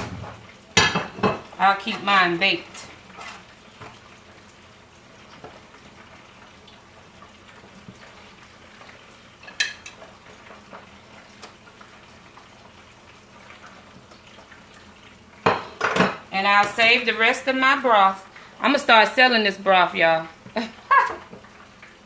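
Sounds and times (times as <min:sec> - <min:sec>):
hot grease sizzling: 0:00.0 - 0:22.0.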